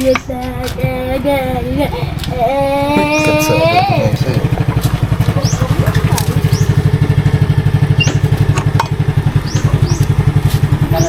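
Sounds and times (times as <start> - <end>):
motor chugging: 0.0 - 11.0.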